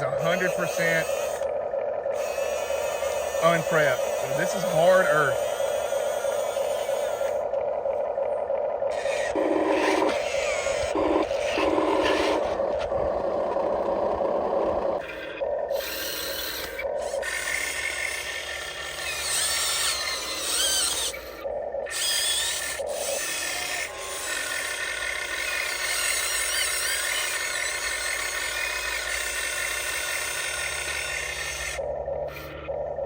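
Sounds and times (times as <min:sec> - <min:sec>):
toy excavator motors whining: 0:00.0 - 0:01.5, 0:02.1 - 0:07.6, 0:08.9 - 0:32.7.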